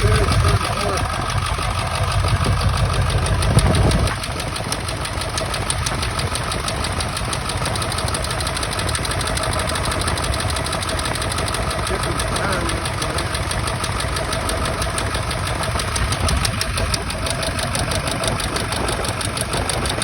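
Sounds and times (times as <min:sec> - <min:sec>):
diesel engine idling with clatter: 0:00.0 - 0:20.0.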